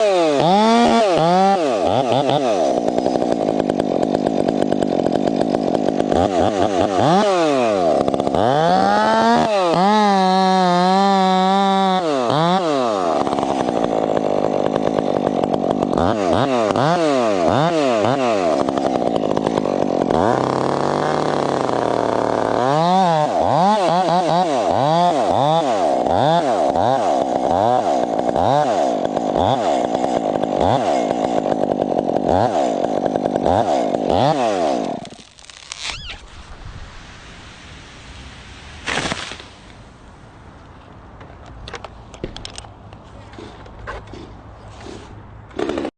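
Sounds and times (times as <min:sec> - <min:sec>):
chainsaw running at high revs: 0:00.0 - 0:36.0, 0:44.8 - 0:45.9.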